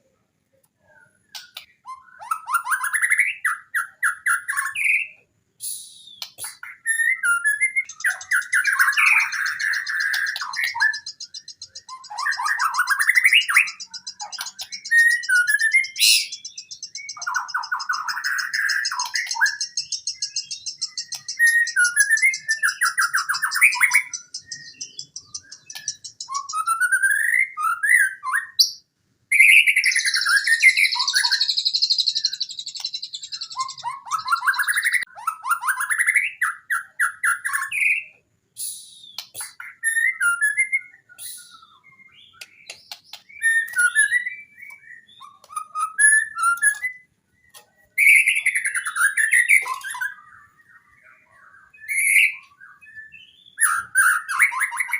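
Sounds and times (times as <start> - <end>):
bird singing whistled phrases: 0.8 - 54.9.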